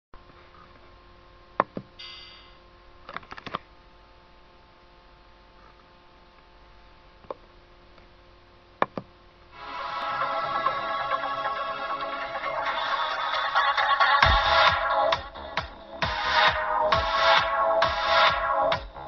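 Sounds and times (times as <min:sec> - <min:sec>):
electrical hum: 0:00.2 - 0:19.0.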